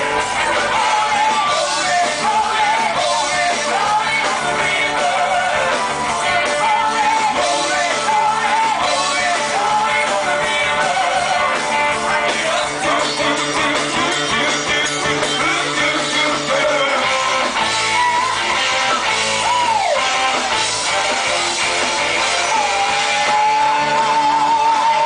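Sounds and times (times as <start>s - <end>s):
person singing: 0.0s - 18.3s, 22.2s - 25.0s
rock band playing live: 0.0s - 25.0s.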